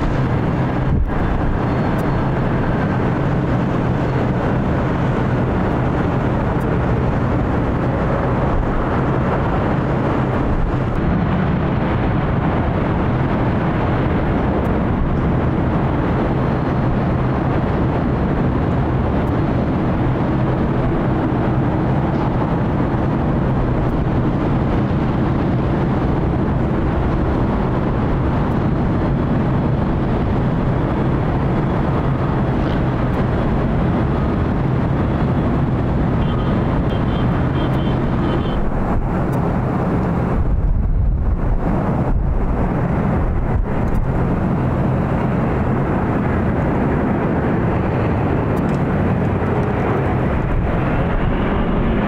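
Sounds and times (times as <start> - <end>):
jet engines running: 0.0 - 52.0.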